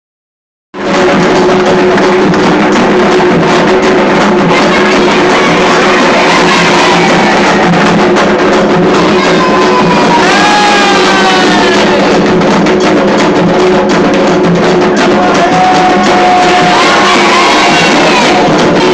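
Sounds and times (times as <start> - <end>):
drum-led music: 0.8 - 18.9.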